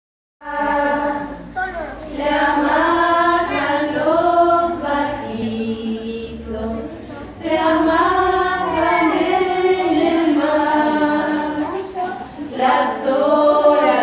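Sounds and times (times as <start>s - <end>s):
unaccompanied voices singing: 0.4s - 14.0s.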